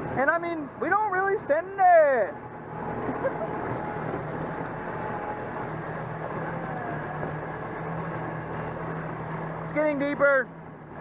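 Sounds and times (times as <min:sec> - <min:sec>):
utility vehicle engine running: 0:00.0 - 0:11.0
water churning and splashing: 0:00.0 - 0:11.0.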